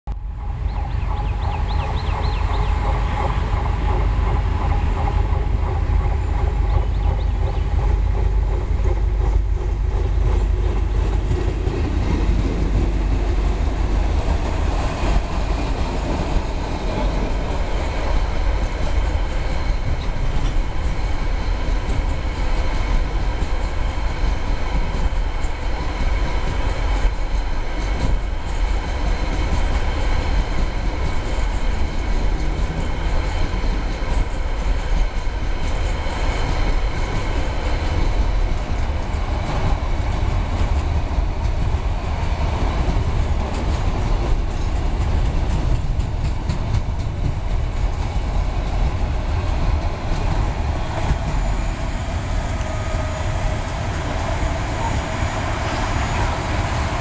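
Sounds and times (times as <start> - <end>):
train rumbling past: 0.1 - 57.0
wheels clicking over rail joints: 1.7 - 51.8.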